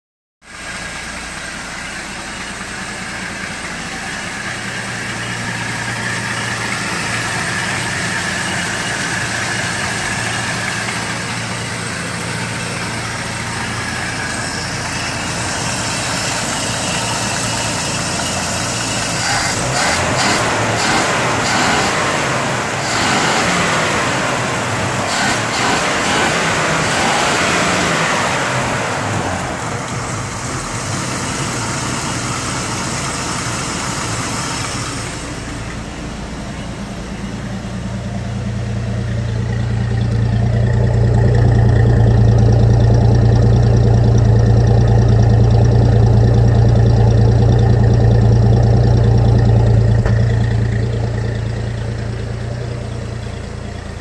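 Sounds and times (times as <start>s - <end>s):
pickup engine running: 0.4s - 54.0s.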